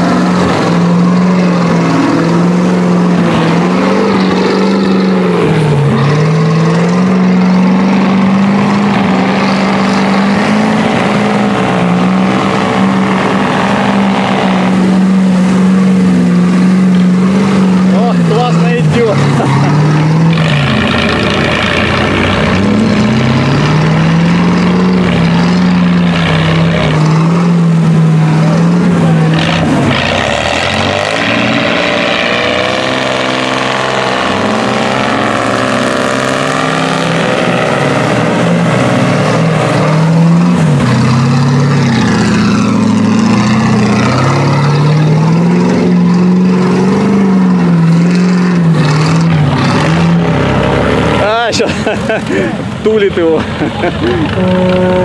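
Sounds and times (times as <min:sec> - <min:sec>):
off-road engine revving: 0:00.0 - 0:55.0
tyres churning through mud: 0:00.0 - 0:55.0.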